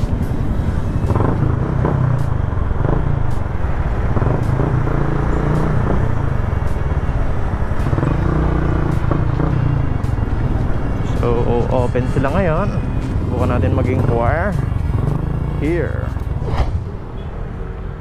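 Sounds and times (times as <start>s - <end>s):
motorcycle engine running: 0.0s - 16.4s
road and wind noise: 0.0s - 18.0s.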